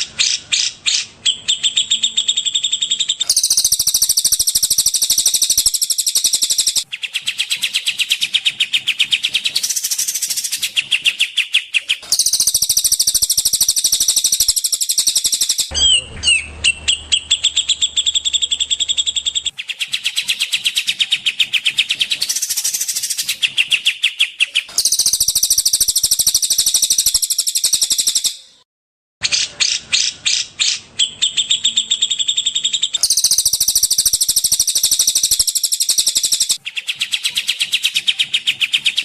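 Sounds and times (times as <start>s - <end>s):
songbird trilling: 0.2s - 28.4s, 29.3s - 39.0s.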